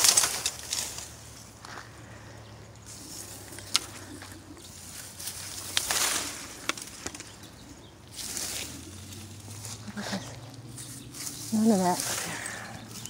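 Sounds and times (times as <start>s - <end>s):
stems snapping: 0.0s - 1.8s, 3.2s - 13.0s
dry reeds rustling: 0.0s - 13.0s.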